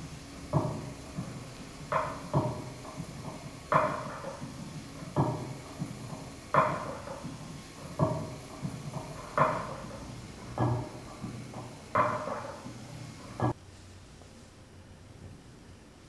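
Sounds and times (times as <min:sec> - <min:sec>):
marionette feet tapping on platform: 0:00.5 - 0:13.6.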